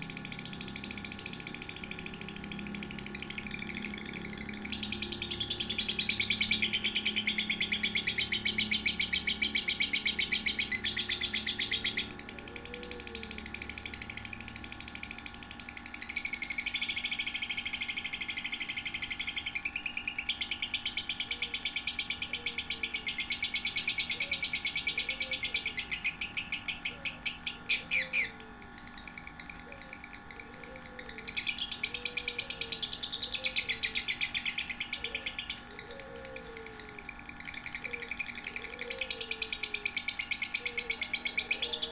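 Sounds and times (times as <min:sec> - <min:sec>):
lovebird twittering trills: 0:00.0 - 0:41.9.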